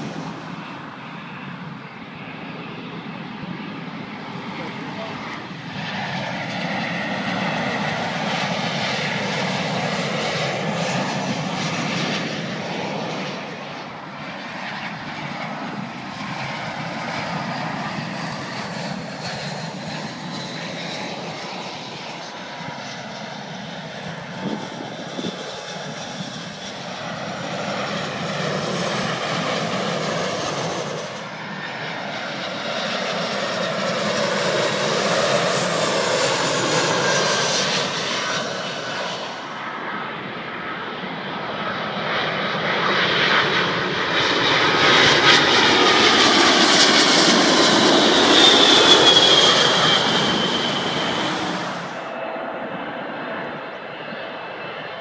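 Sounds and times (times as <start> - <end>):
jet airliners passing overhead: 0.0 - 55.0.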